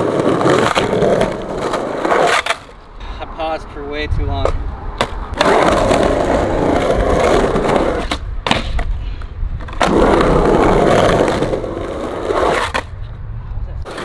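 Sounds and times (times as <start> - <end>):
skateboard wheels rumbling: 0.0 - 2.8, 4.4 - 14.0.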